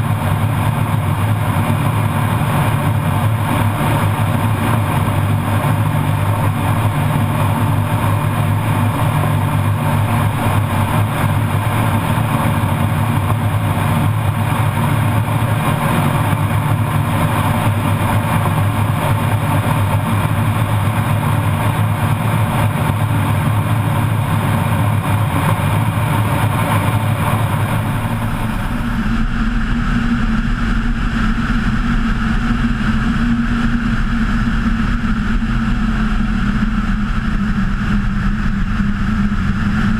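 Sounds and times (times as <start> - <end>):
floatplane engine running: 0.0 - 39.9.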